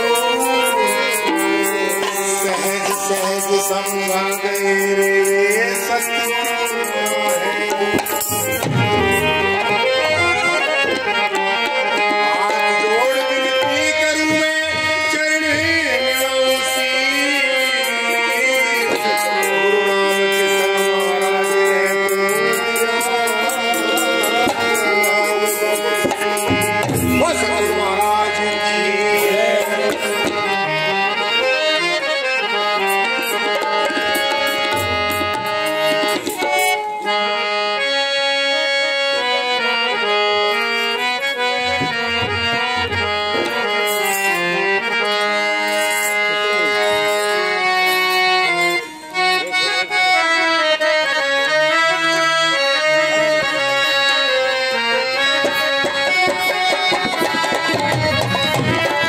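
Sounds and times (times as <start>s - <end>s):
dholak drum beating: 0.0s - 39.2s, 39.9s - 59.0s
harmonium melody: 0.0s - 59.0s.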